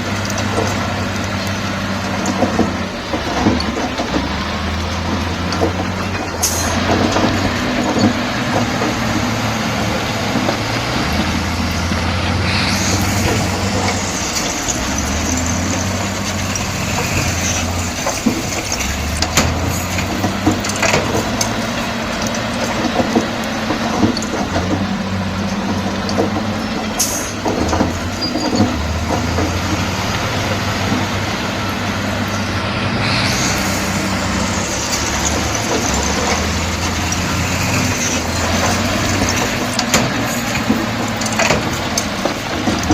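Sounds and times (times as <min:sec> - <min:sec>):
bulldozer diesel engine running: 0:00.0 - 0:42.9
clanks and knocks from tracks: 0:00.0 - 0:42.9.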